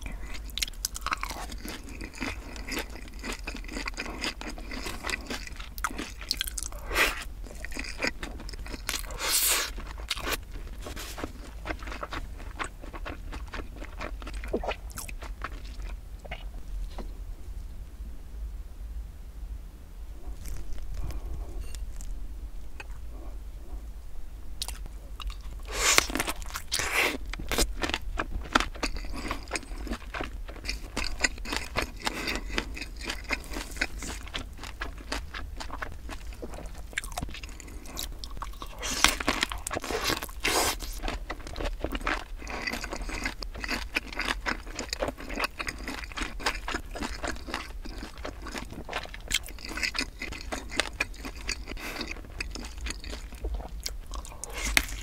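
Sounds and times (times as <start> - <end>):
chewing: 0.0 - 17.1, 20.2 - 22.1, 24.6 - 55.0.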